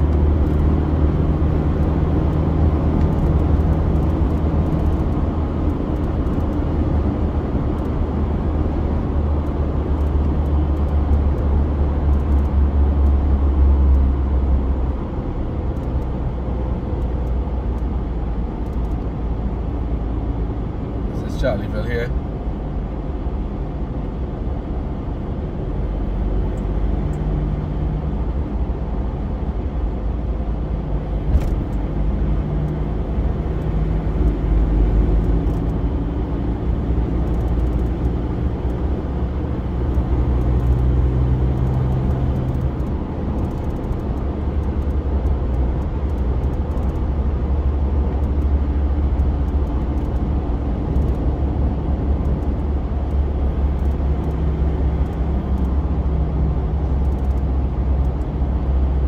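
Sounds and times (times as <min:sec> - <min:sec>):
car engine and tyre rumble: 0:00.0 - 0:59.0
faint engine hum: 0:00.0 - 0:59.0.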